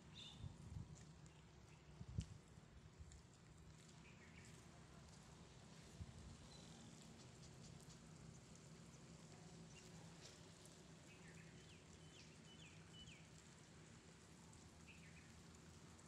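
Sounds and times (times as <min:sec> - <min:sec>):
light rain: 0:00.0 - 0:16.0.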